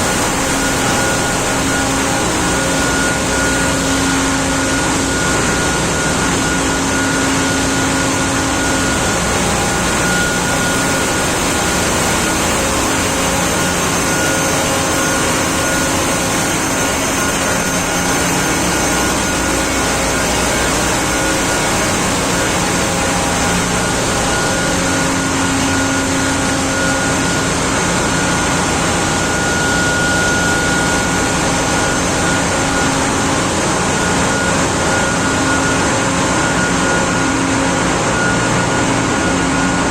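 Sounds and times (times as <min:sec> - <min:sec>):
engine room machinery din: 0:00.0 - 0:39.9
whining tones: 0:00.0 - 0:39.9.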